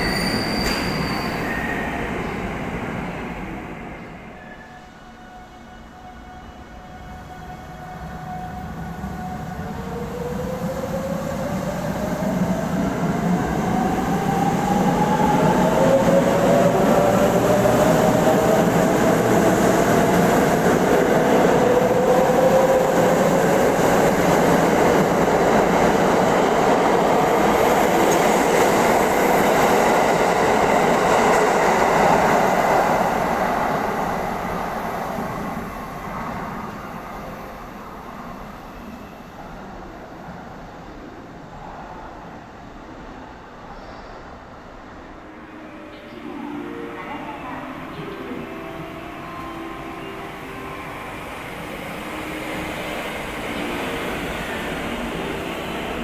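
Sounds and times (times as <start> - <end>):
train running on rails: 0.0 - 56.0.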